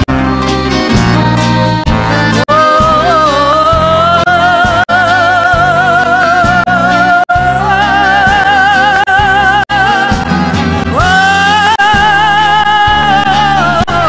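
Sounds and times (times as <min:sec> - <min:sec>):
pop ballad melody with bass: 0:00.0 - 0:14.0.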